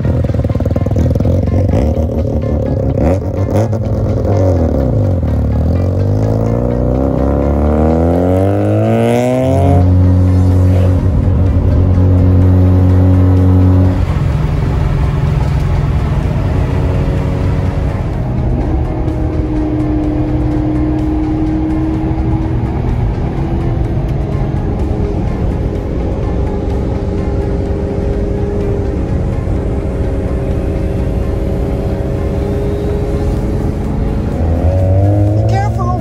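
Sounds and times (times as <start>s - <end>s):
background music with held chords: 0.0s - 36.0s
rotary engine revving: 0.0s - 36.0s.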